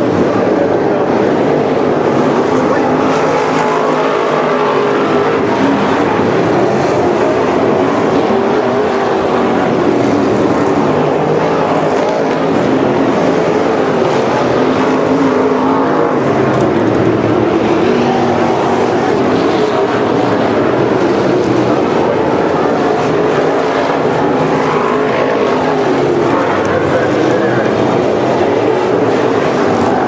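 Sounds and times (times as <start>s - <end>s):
race car engines roaring: 0.0s - 30.0s.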